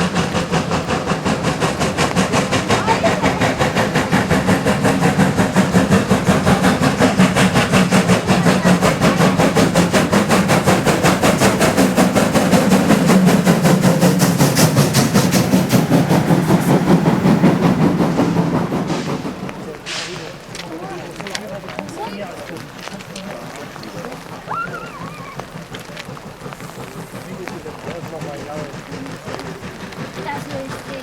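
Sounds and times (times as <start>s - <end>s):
locomotive running on track: 0.0s - 31.0s.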